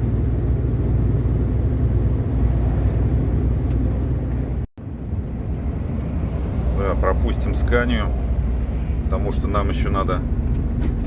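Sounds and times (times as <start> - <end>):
diesel truck engine rumble: 0.0 - 11.0.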